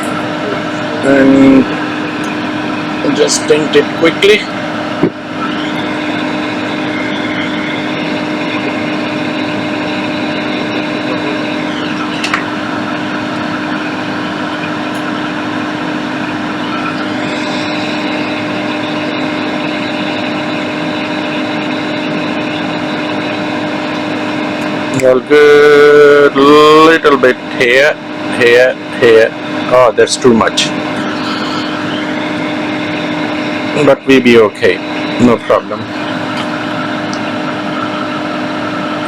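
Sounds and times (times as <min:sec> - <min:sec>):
electric fan blowing with hum: 0:00.0 - 0:39.0.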